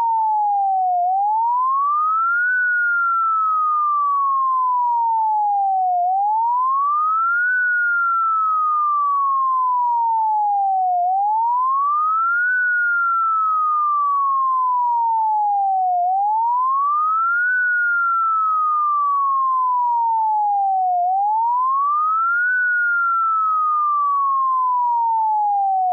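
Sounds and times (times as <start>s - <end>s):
synthesized fire engine siren wail: 0.0s - 25.9s.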